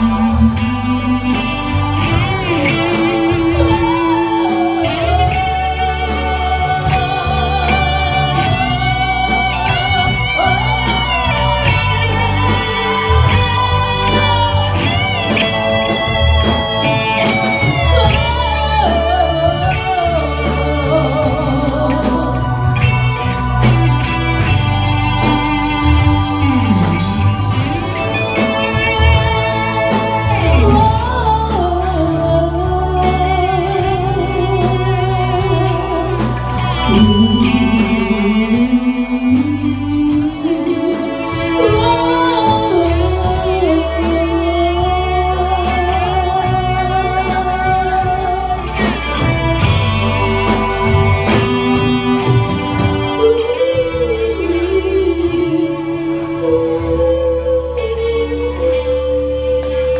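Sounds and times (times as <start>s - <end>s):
lead guitar melody with bends: 0.0s - 59.9s
live rock band playing: 0.0s - 59.9s.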